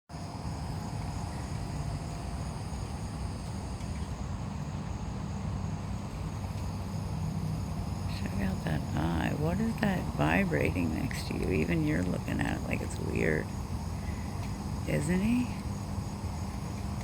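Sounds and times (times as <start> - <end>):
insect chorus trilling: 0.2 - 17.0.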